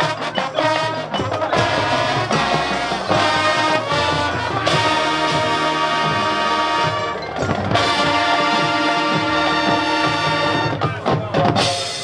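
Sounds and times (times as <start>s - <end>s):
drumline hits: 0.0s - 12.0s
marching band brass chords: 0.0s - 12.0s.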